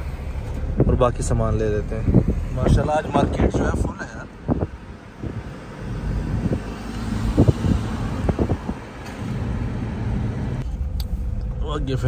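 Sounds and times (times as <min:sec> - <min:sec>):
car engine and tyre rumble: 0:00.0 - 0:12.0
road and wind noise: 0:00.0 - 0:12.0.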